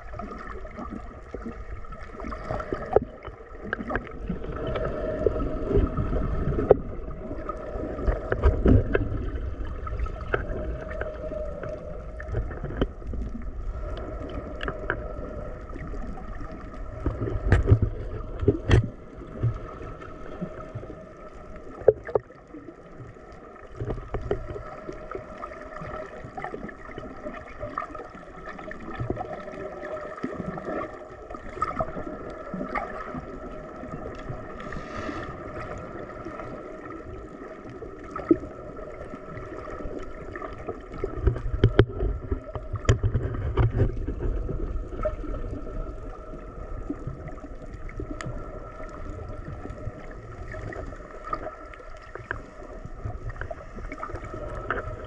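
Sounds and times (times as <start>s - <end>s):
underwater droning hum: 0.0s - 55.0s.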